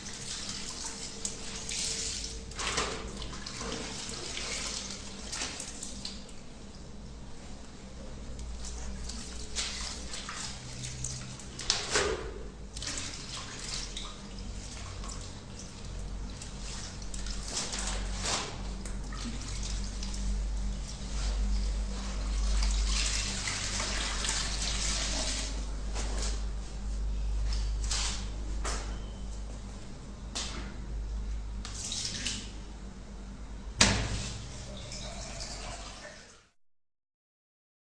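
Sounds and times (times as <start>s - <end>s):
water sloshing in washing machine: 0.0s - 7.8s, 8.5s - 29.1s, 31.6s - 32.8s, 33.8s - 36.6s
low steady hum: 0.0s - 35.8s.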